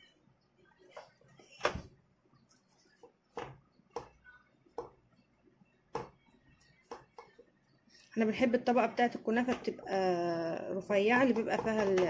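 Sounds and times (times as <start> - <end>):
dough rustling: 0.0 - 12.0.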